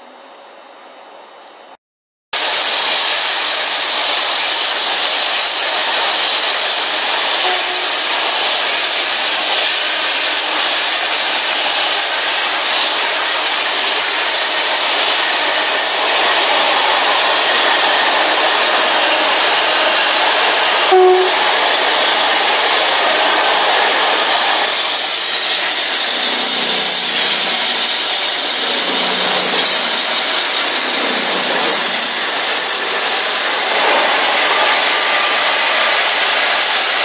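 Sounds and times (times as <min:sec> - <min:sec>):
freight train passing at speed: 0:02.4 - 0:37.0.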